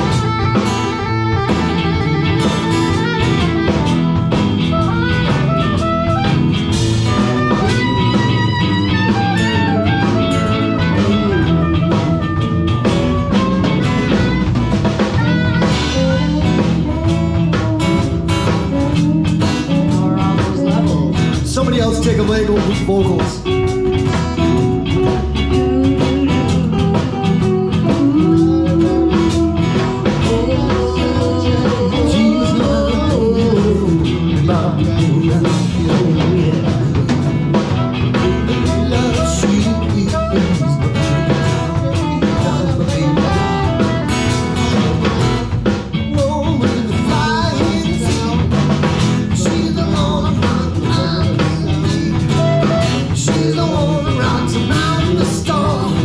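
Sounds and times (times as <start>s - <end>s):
blues guitar lead: 0.0s - 56.0s
drum kit beat: 0.0s - 56.0s.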